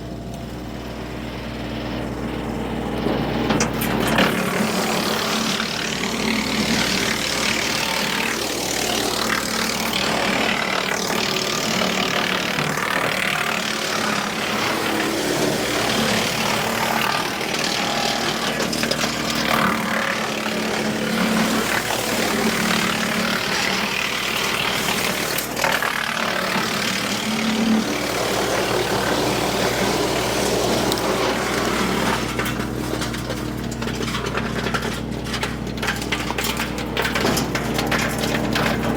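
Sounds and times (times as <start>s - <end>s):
branches crunching in wood chipper: 0.0s - 38.9s
engine and chipper drone: 0.0s - 38.9s.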